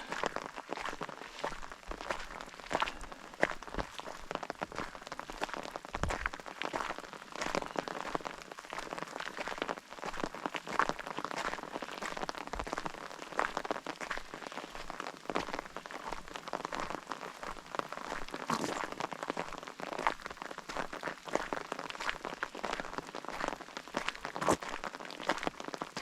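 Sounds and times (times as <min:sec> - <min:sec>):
rain drops pattering: 0:00.0 - 0:26.0
steady rain hiss: 0:00.0 - 0:26.0.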